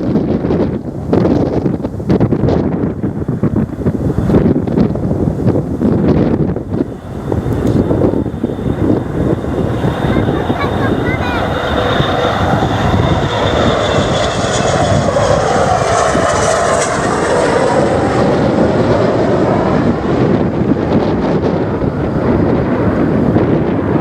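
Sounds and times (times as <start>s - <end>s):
airliner engines passing: 0.0s - 24.0s.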